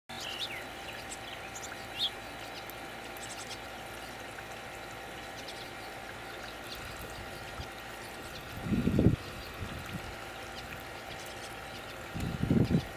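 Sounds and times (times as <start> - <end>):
outdoor background hiss: 0.1 - 12.9.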